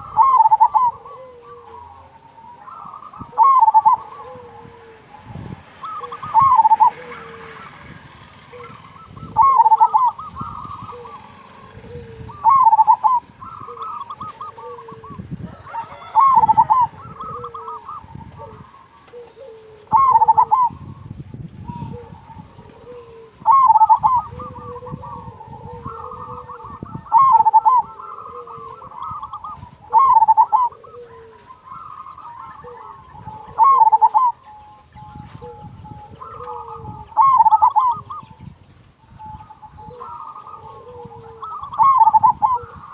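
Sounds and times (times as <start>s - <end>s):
dove cooing: 0.0s - 42.9s
softer lower dove coos: 0.0s - 42.9s.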